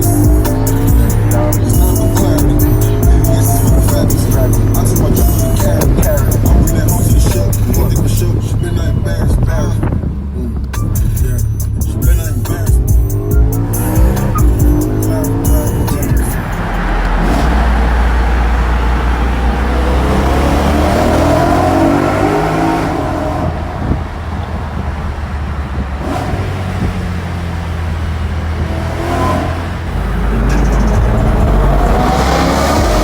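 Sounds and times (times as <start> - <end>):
car engine accelerating hard: 0.0 - 33.0.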